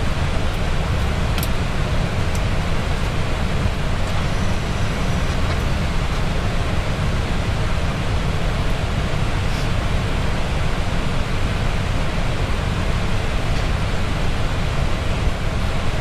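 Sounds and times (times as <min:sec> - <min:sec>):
cockpit rushing hiss and rumble: 0:00.0 - 0:16.0.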